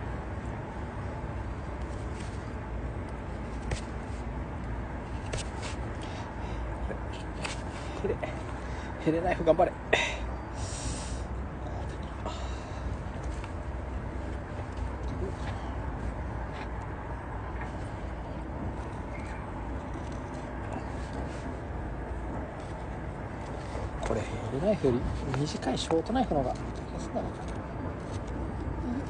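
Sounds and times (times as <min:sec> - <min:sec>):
background hiss and rumble: 0:00.0 - 0:29.0.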